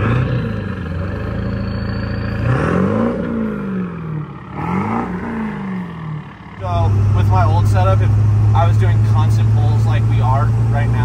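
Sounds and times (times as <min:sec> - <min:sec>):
diesel engine pulling hard: 0:00.0 - 0:11.0.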